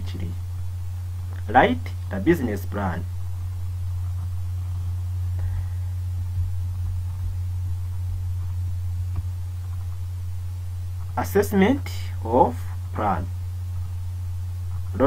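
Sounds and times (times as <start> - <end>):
faint hiss: 0.0 - 15.0
low hum: 0.0 - 15.0.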